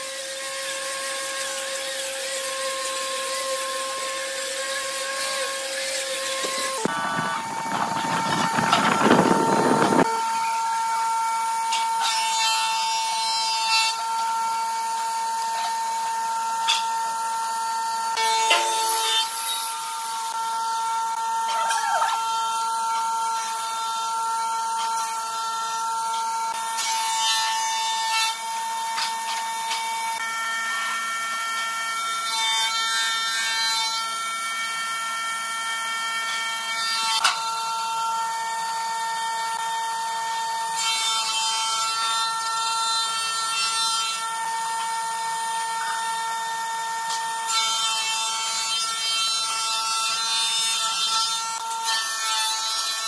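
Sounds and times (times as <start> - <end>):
workshop machinery hum: 0.0 - 49.9.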